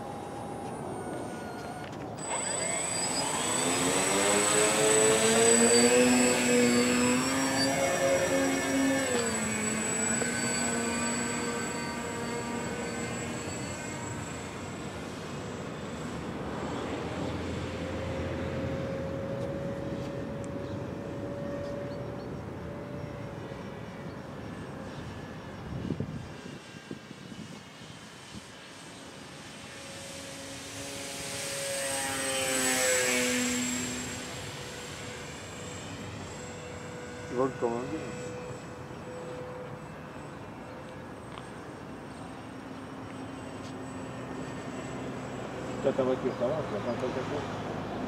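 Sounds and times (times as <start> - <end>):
model aircraft propellers whining: 0.0 - 48.0.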